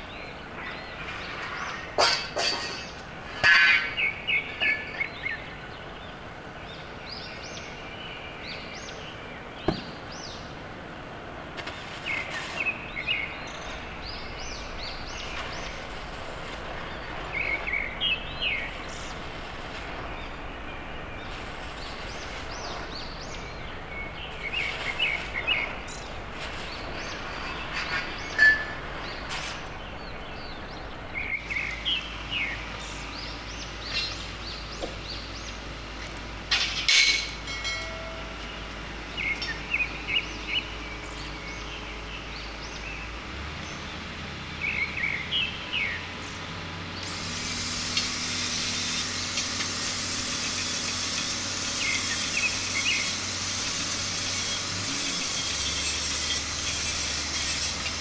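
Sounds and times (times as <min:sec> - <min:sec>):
small birds chirping: 0:00.0 - 0:10.8, 0:11.6 - 0:58.0
steady background hiss: 0:00.0 - 0:58.0.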